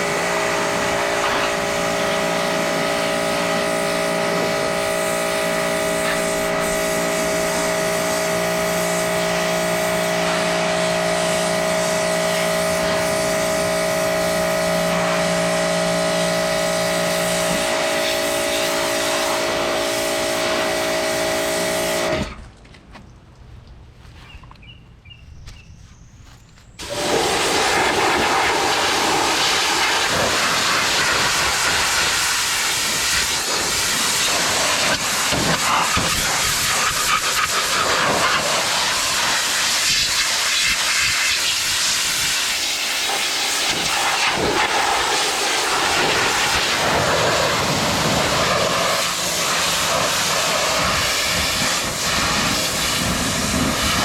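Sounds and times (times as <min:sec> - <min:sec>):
pressure washer water jet hissing: 0:00.0 - 0:22.3, 0:26.8 - 0:54.0.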